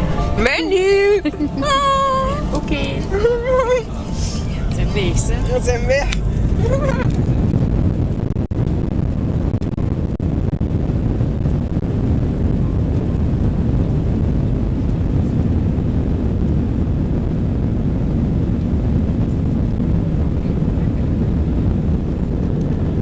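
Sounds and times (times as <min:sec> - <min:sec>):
airliner engines rumbling in cabin: 0:00.0 - 0:23.0.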